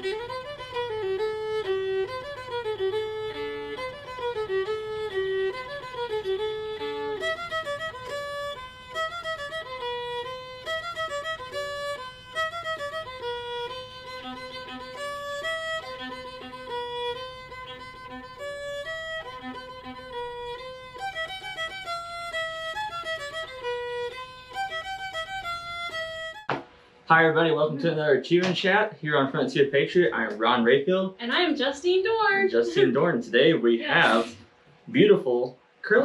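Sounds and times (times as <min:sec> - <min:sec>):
fiddle melody: 0:00.0 - 0:34.4.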